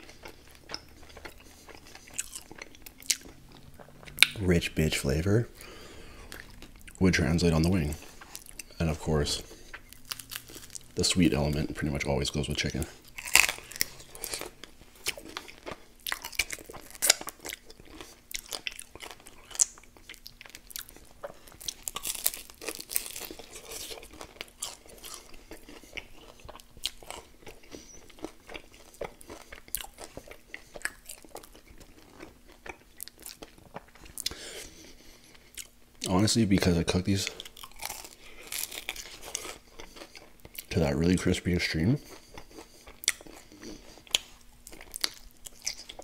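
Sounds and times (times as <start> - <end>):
crunching and chewing fried chicken: 0.0 - 46.0.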